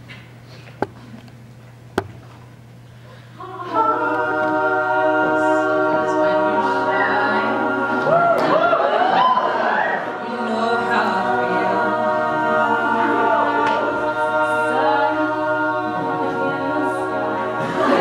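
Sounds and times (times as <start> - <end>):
low steady hum: 0.0 - 18.0
a cappella group singing chord: 3.4 - 18.0.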